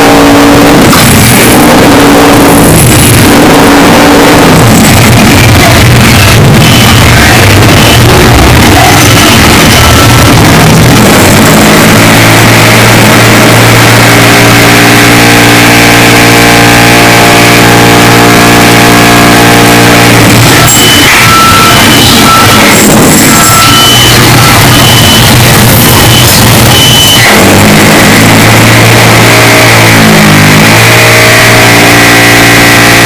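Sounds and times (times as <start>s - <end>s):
distorted construction din: 0.0s - 33.0s
droning machine tone: 0.0s - 33.0s.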